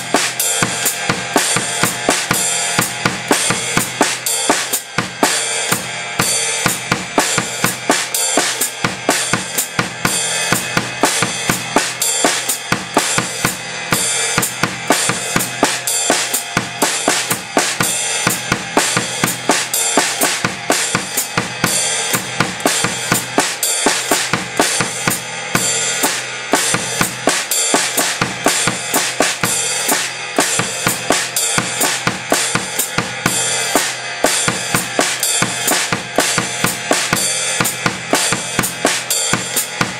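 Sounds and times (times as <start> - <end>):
bass drum and snare: 0.0 - 39.9
hi-hat pedal closing: 0.0 - 39.9
ride cymbal: 0.0 - 39.9.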